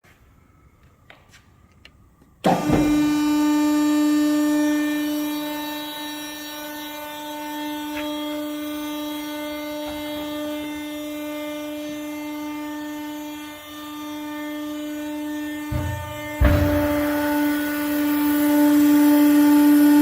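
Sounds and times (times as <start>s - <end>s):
hydraulic power unit whining: 0.4s - 20.0s.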